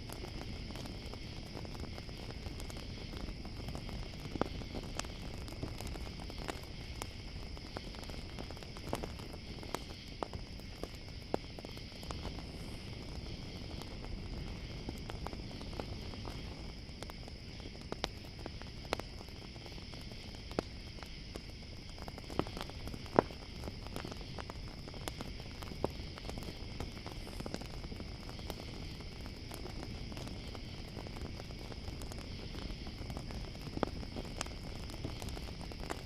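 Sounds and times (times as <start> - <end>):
campfire crackling: 0.0 - 36.0
crickets chirping: 0.0 - 36.0.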